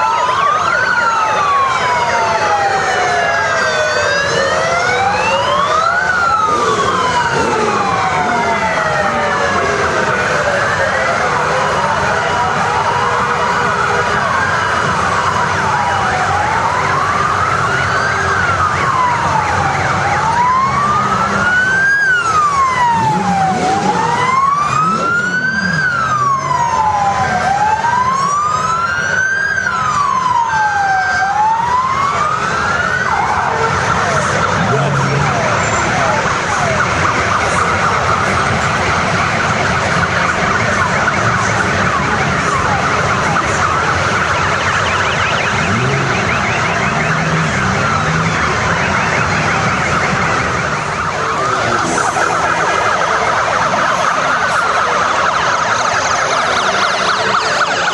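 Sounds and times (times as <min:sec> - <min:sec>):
motorcycles passing: 0:00.0 - 0:57.9
siren wailing: 0:00.0 - 0:57.9.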